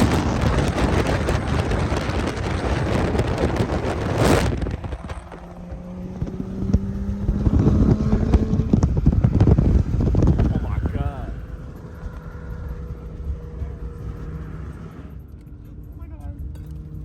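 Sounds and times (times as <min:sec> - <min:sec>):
car engine: 0:00.0 - 0:17.0
road and wind noise: 0:00.0 - 0:17.0.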